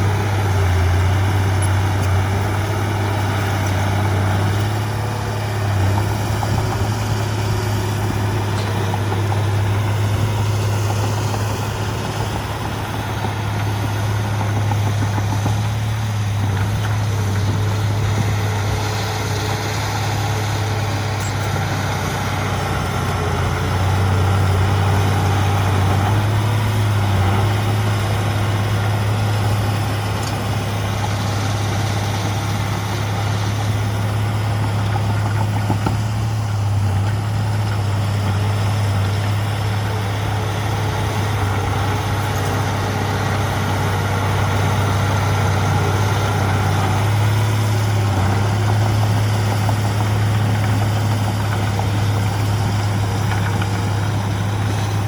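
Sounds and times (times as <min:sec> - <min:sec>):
diesel earthmoving machinery hum: 0:00.0 - 0:55.0.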